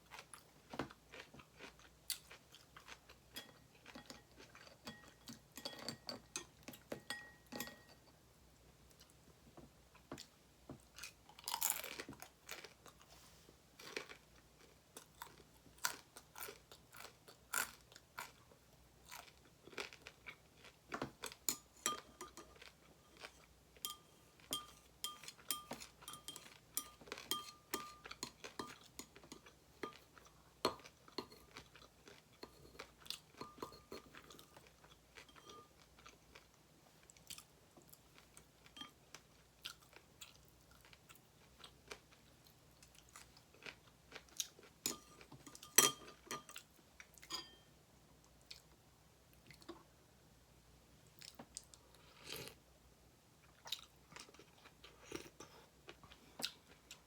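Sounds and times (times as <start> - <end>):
chewing and crunching food: 0.0 - 7.9, 9.9 - 47.6, 51.0 - 52.6, 53.4 - 57.0.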